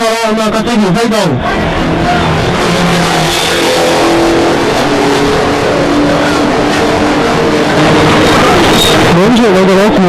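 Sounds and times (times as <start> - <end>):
racing car engines running: 0.4 - 10.0.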